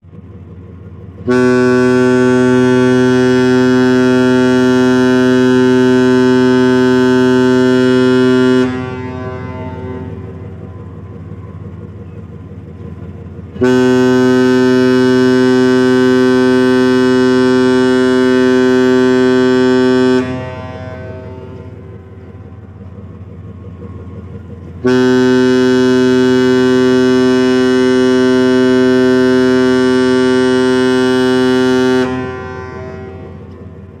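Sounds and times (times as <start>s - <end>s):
deep ship's horn blast: 0.2s - 34.0s.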